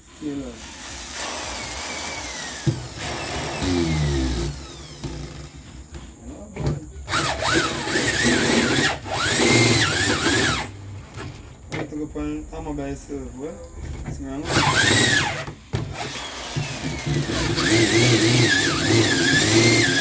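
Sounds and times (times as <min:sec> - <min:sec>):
power drill motor whine: 0:00.0 - 0:06.5, 0:07.1 - 0:11.3, 0:14.4 - 0:20.0.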